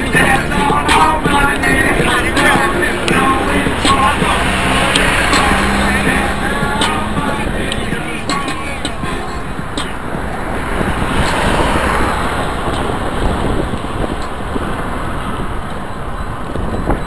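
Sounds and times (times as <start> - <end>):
bicycle road rumble: 0.0 - 17.0
passing traffic: 0.0 - 17.0
wind buffeting microphone: 0.0 - 17.0.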